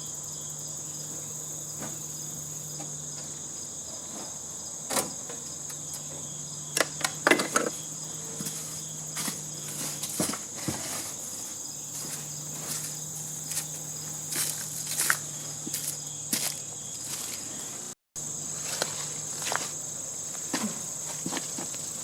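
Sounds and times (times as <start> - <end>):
insects buzzing: 0.0 - 22.0.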